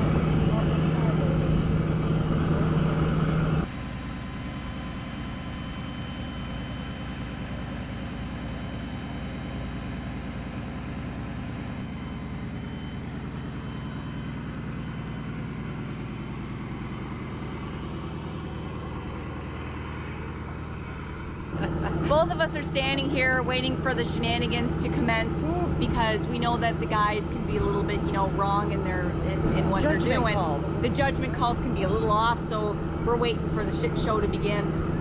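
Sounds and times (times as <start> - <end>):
engine idling low: 0.0 - 35.0
loud engine sound: 0.0 - 35.0.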